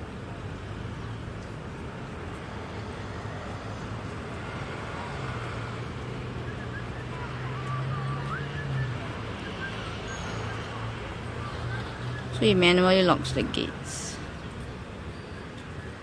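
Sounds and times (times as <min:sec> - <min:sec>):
road traffic noise: 0:00.0 - 0:16.0
vehicle engine hum: 0:00.0 - 0:16.0.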